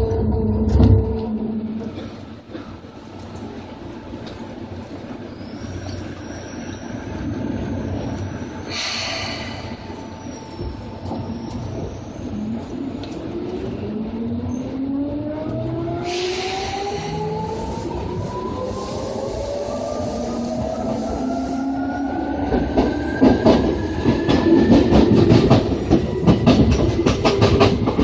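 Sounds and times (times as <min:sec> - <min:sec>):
train rail rumble: 0:00.0 - 0:28.0.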